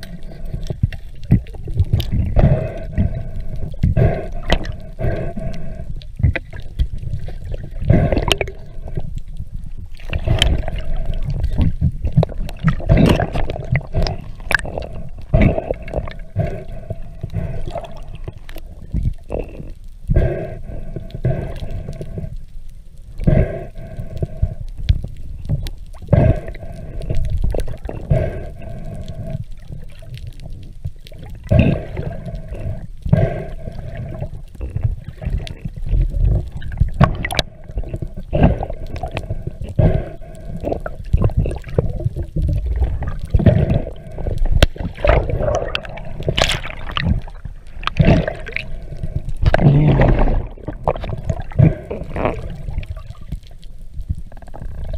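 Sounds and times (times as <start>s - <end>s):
sharp underwater clicks: 0.0s - 22.4s, 23.2s - 54.9s.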